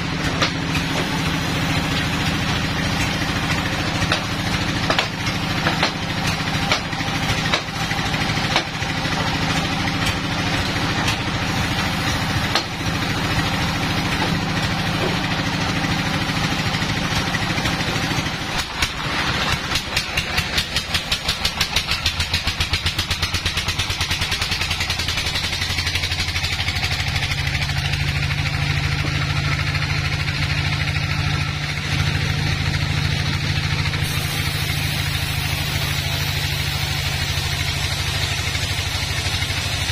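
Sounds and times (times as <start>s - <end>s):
saw blade cutting log hum: 0.0s - 39.9s
sawmill machinery running: 0.0s - 39.9s.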